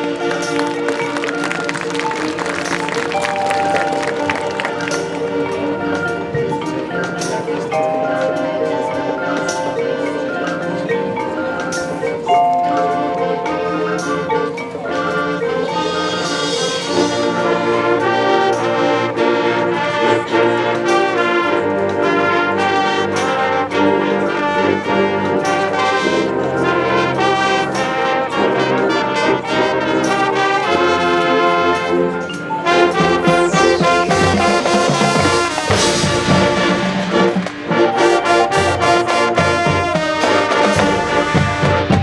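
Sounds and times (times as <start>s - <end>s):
marching band brass playing: 0.0s - 7.9s, 13.2s - 42.0s
percussion: 0.0s - 42.0s.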